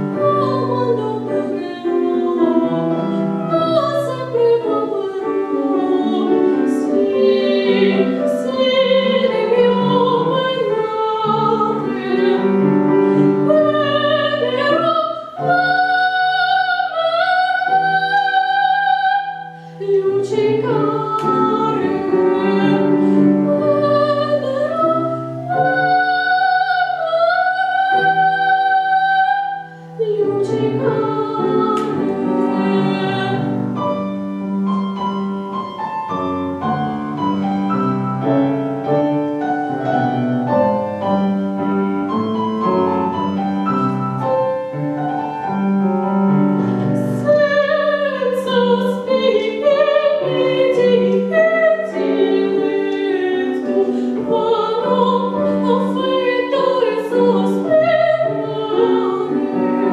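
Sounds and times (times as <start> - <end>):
piano accompaniment: 0.0 - 59.9
woman singing classical: 0.0 - 59.9.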